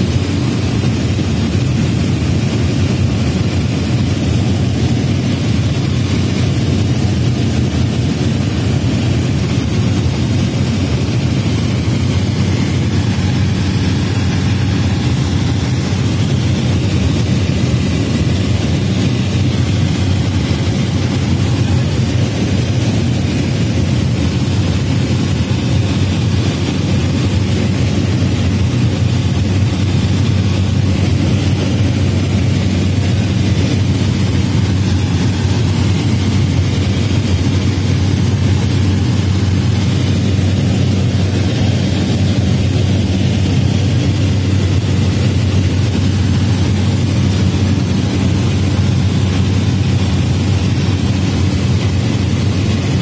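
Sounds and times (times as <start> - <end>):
propeller aircraft engine drone: 0.0 - 53.0.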